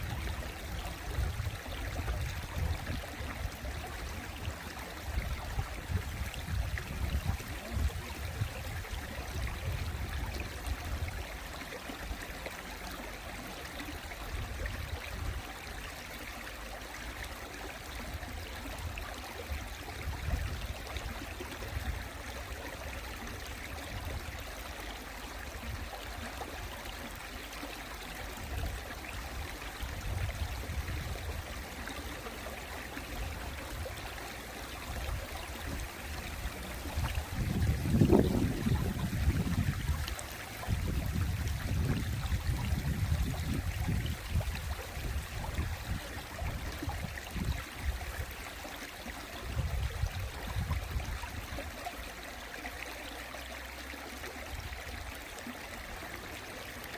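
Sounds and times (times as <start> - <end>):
stream water running over rocks: 0.0 - 56.9.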